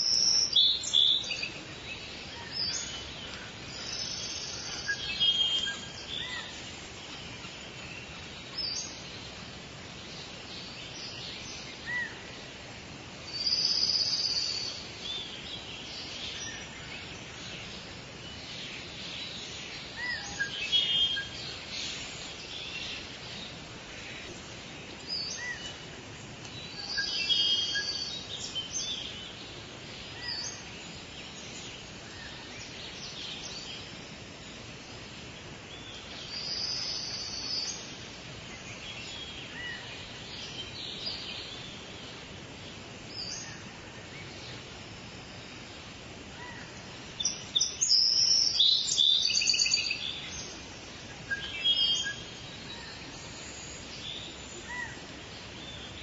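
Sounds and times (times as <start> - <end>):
background hiss: 0.0 - 56.0
birds singing and chirping: 0.0 - 56.0.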